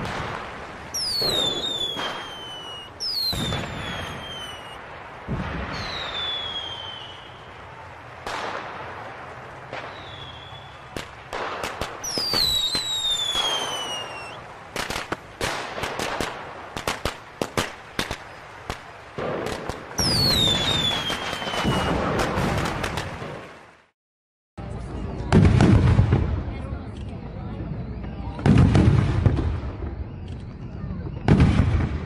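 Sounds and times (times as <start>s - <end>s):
fireworks bursting and cracking: 0.0s - 23.9s, 25.0s - 32.0s
heavy fireworks booms: 0.0s - 23.9s, 25.2s - 26.9s, 27.6s - 32.0s
whistling fireworks: 0.0s - 23.9s, 25.0s - 32.0s.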